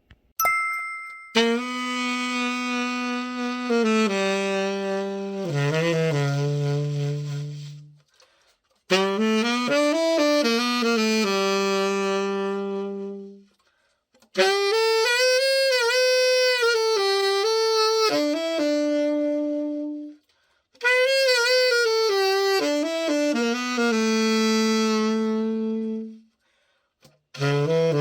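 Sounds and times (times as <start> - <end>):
tenor saxophone solo: 1.4 - 13.6, 14.2 - 28.0.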